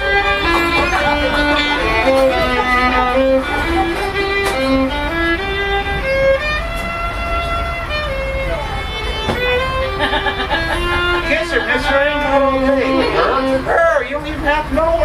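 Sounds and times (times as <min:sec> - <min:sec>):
solo fiddle tune: 0:00.0 - 0:15.0
steady low rumble: 0:00.0 - 0:15.0.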